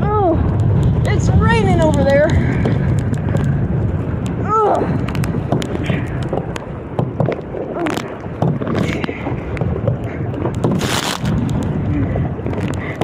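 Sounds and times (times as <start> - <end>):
water splashing around kayak: 0.0 - 13.0
wind buffeting microphone: 0.0 - 13.0.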